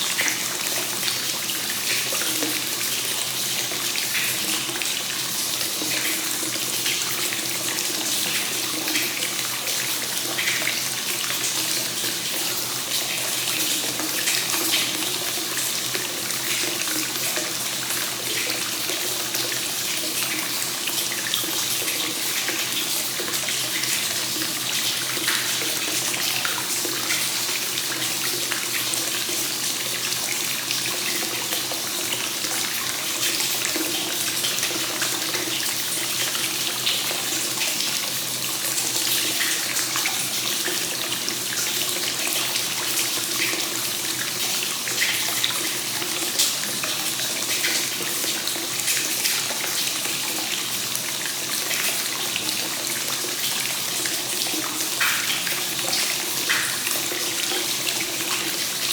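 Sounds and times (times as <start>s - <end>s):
water flowing into a bath: 0.0s - 58.9s.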